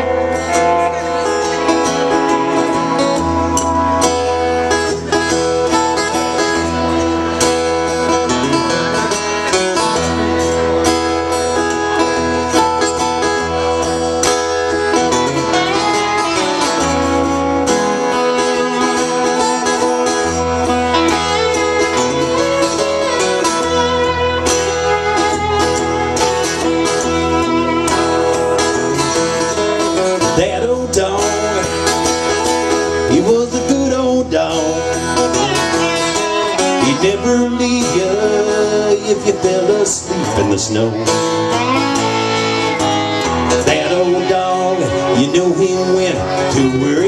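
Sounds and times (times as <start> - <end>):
low bass: 0.0 - 46.9
guitar: 0.0 - 47.0
lap steel guitar sliding: 0.0 - 47.0.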